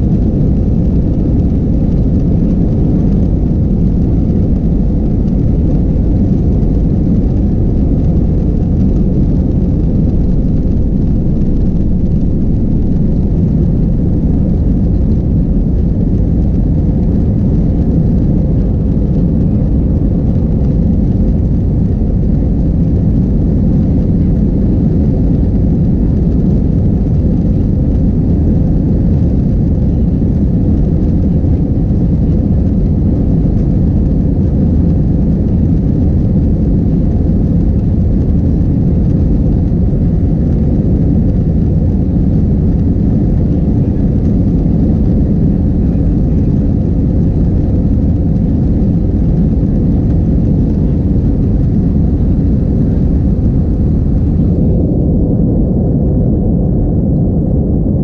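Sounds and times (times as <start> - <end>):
jet engines deep rumble: 0.0 - 58.0.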